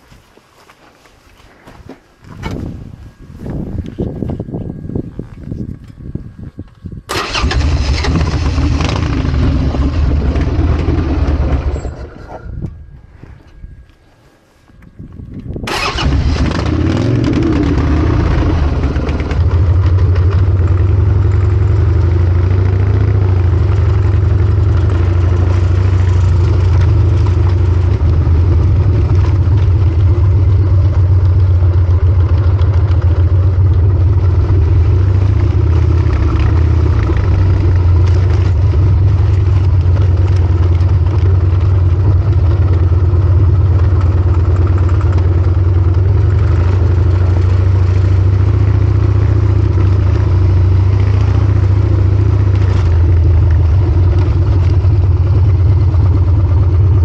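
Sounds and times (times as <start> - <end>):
motorcycle engine running loud: 2.4 - 13.0, 15.1 - 57.0.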